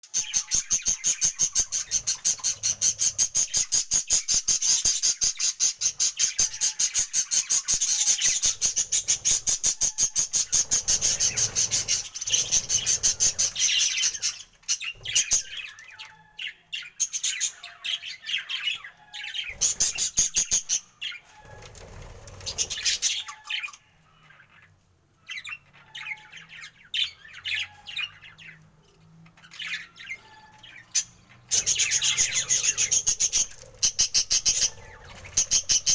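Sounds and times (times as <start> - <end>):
budgerigars chattering: 0.2 - 24.7, 29.4 - 35.9.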